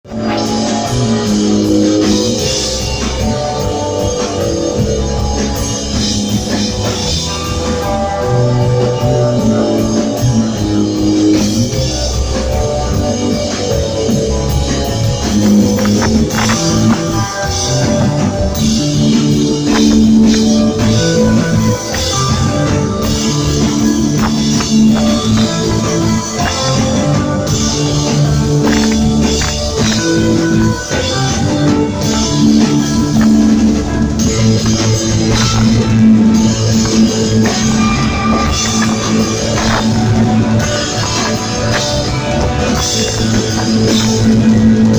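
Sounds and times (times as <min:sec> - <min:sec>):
drum kit: 0:00.0 - 0:44.9
electric guitar chords: 0:00.0 - 0:44.9.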